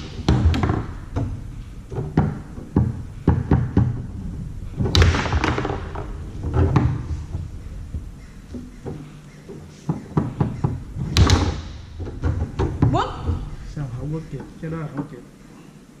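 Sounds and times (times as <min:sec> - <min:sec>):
foosball ball knocks: 0:00.0 - 0:15.1
rods banging against table: 0:00.0 - 0:15.2.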